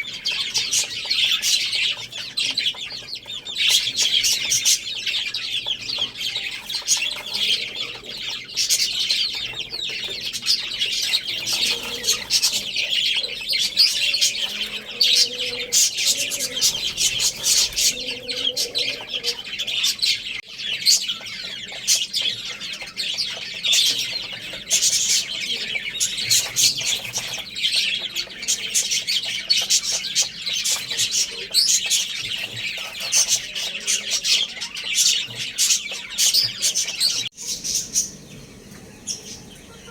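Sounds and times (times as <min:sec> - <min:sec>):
faint lower bird calls: 0:00.0 - 0:39.9
small birds chirping: 0:00.0 - 0:39.9.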